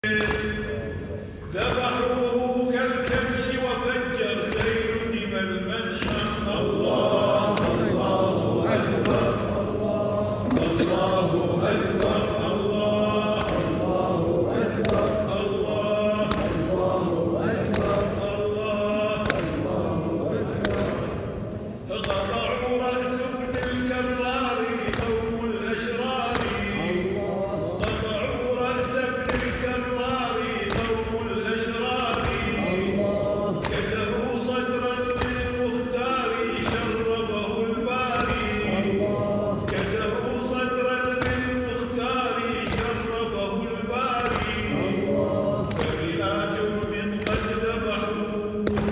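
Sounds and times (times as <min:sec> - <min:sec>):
man chanting lament: 0:00.0 - 0:48.9
rhythmic chest slaps: 0:00.0 - 0:48.9
crowd of voices chanting: 0:01.5 - 0:48.9.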